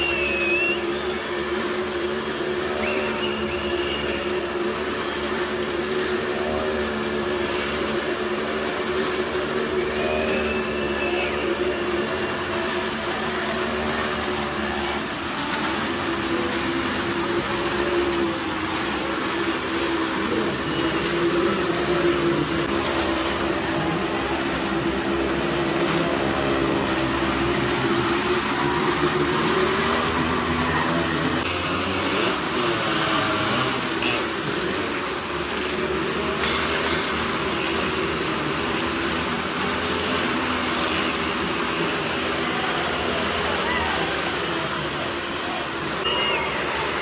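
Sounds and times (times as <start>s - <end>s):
motorcycle engines droning: 0.0s - 47.0s.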